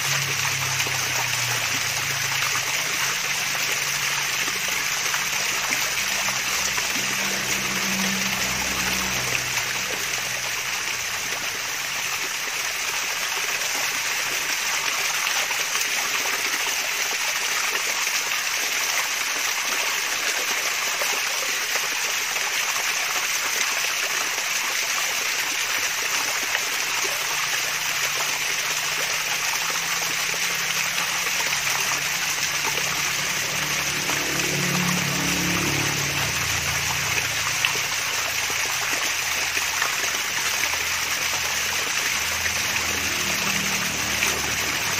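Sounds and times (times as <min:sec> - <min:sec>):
water splashing and trickling: 0:00.0 - 0:44.9.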